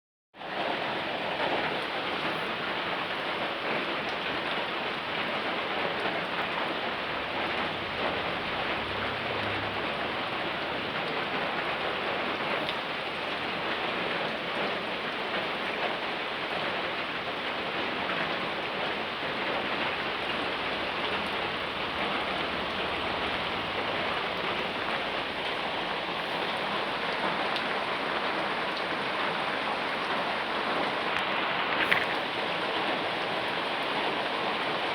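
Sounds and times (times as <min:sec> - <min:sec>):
steady rain hiss: 0:00.4 - 0:34.9.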